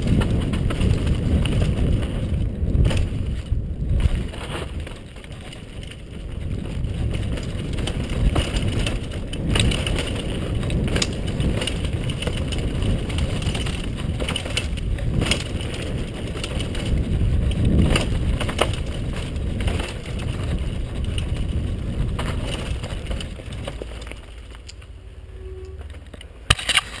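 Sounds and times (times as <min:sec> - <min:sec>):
wind buffeting microphone: 0:00.0 - 0:25.0
bike rattling over bumps: 0:00.0 - 0:27.0
tyres crunching over dirt: 0:00.0 - 0:27.0.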